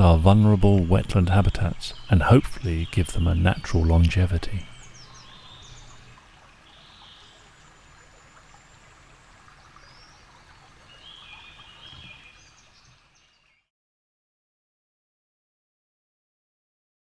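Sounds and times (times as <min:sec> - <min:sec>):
bird calls: 0:00.0 - 0:13.7
stream trickling: 0:00.0 - 0:13.7.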